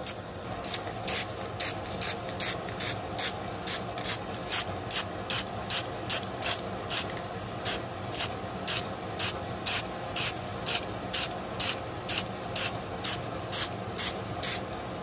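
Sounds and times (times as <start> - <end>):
spray can bursts: 0.0 - 7.1, 7.7 - 14.6
steady low hum: 0.0 - 15.0.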